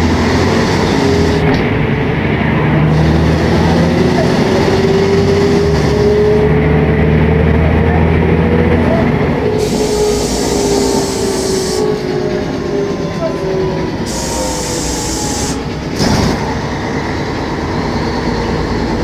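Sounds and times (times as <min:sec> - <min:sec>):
bus diesel engine drone: 0:00.0 - 0:19.0
steady drivetrain whine: 0:00.0 - 0:19.0.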